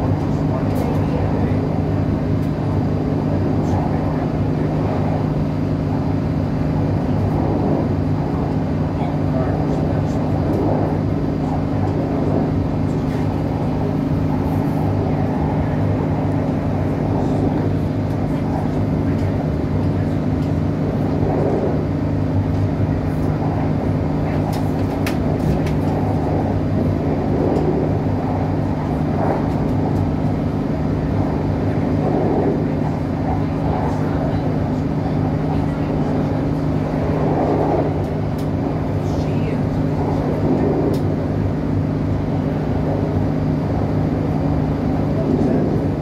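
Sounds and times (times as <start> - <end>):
diesel engine drone: 0.0 - 46.0
low hum: 0.0 - 46.0.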